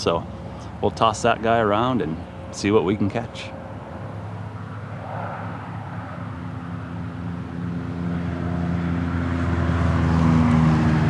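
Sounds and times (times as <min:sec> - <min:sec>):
highway traffic: 0:00.0 - 0:11.0
vehicle engine hum: 0:00.0 - 0:11.0.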